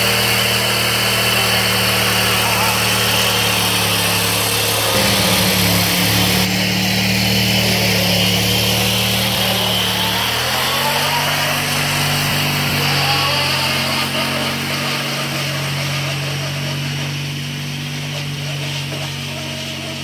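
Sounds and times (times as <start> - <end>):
lawn tractor engine running: 0.0 - 20.0.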